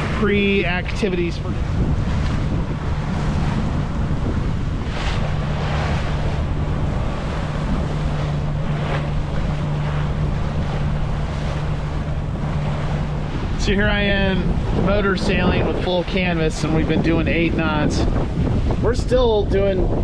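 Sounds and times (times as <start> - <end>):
boat engine humming: 0.0 - 20.0
water rushing past hull: 0.0 - 20.0
wave swooshes: 0.0 - 20.0
wind buffeting microphone: 0.0 - 20.0.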